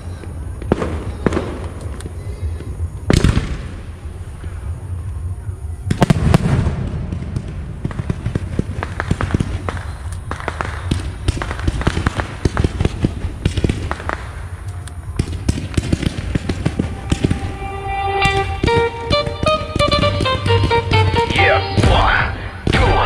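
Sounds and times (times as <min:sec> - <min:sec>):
fireworks popping and crackling: 0:00.0 - 0:04.5, 0:05.9 - 0:23.0.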